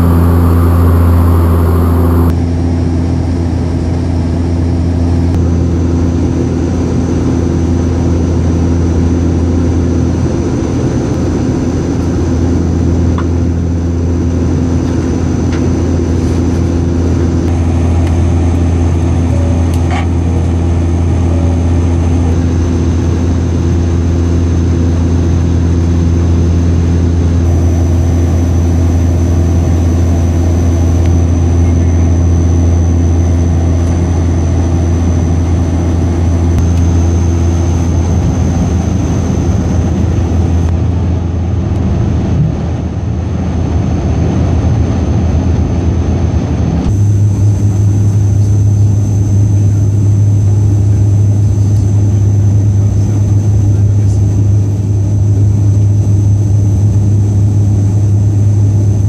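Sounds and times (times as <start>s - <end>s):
turboprop engine droning: 0.0s - 59.0s.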